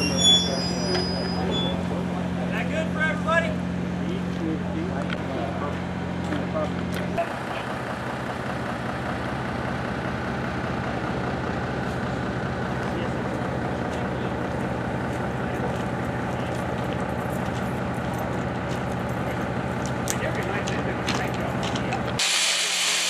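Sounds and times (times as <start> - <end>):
large engine idling: 0.0 - 23.0.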